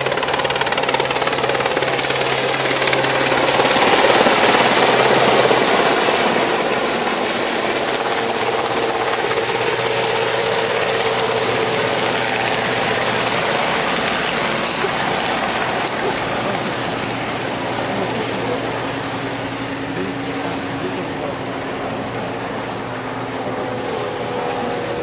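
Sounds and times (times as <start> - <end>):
helicopter flying past: 0.0 - 25.0.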